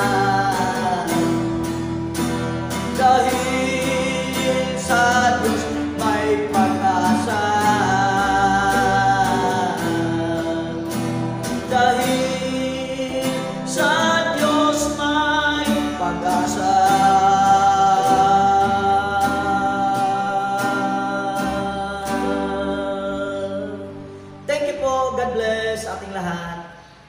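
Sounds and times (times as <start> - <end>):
electronic keyboard: 0.0 - 26.5
man singing: 0.0 - 26.8
strummed acoustic guitar: 0.0 - 27.0.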